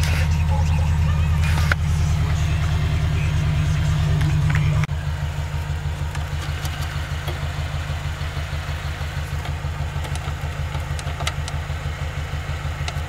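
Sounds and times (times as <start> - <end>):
pulsing low hum: 0.0 - 13.0.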